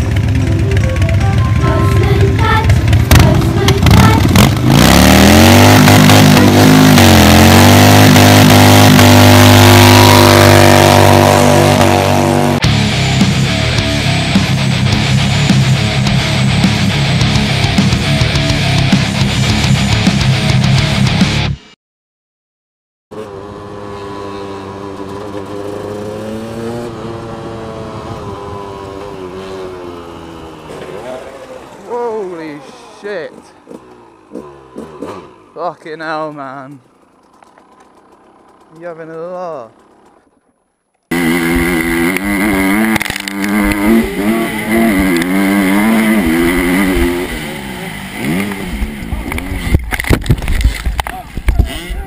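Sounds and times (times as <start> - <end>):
dirt bike engine: 0.0 - 21.5, 23.1 - 52.0.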